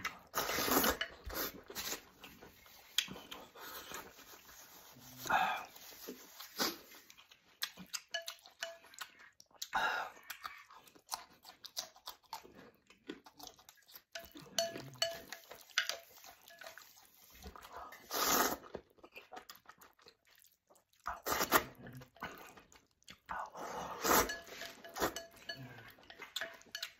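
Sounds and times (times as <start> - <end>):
man chewing and slurping noodles: 0.0 - 26.9.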